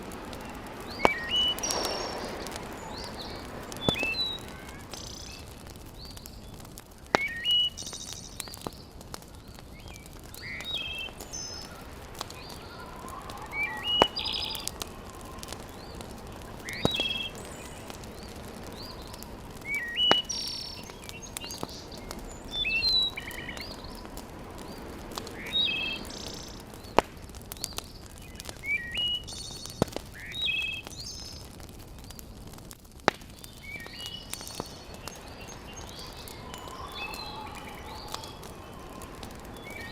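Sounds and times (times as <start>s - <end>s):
birds chirping: 0.0s - 32.2s, 33.3s - 39.9s
wood fire crackling: 0.0s - 39.9s.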